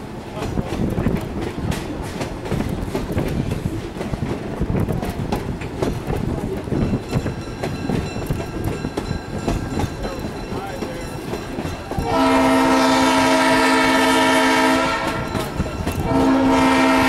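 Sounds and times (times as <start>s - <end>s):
train wheels clacking on rails: 0.0s - 17.0s.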